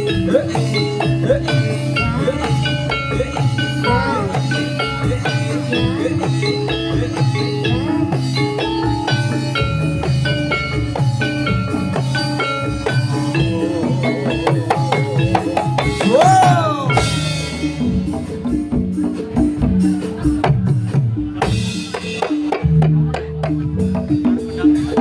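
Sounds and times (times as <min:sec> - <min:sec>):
hand drum pulse: 0:00.0 - 0:25.0
struck metallophone notes: 0:00.0 - 0:25.0.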